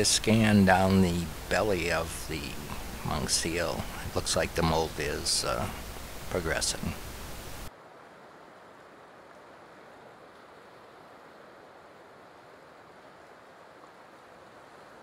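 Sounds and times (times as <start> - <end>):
faint muffled surf: 0.0 - 15.0.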